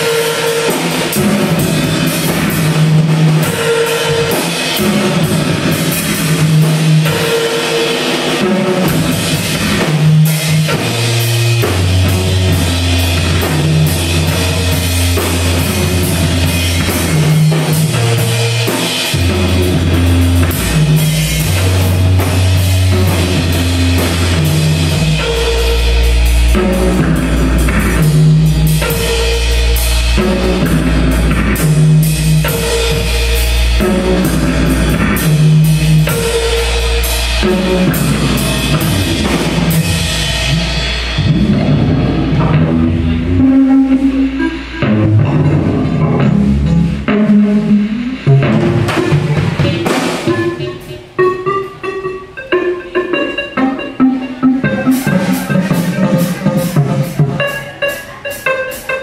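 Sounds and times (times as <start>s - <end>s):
deep bass notes: 0.0s - 57.4s
acoustic drum kit: 0.0s - 59.0s
electronic beats: 0.0s - 59.0s
short repeating notes loop: 0.0s - 59.0s.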